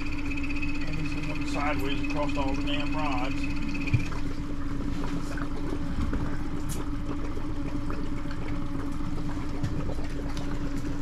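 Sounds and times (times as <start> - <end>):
boat motor hum: 0.0 - 11.0.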